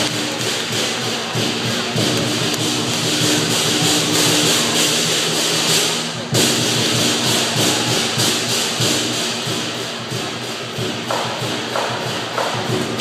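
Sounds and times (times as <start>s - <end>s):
cymbals clashing: 0.0s - 13.0s
drum beating: 0.0s - 13.0s.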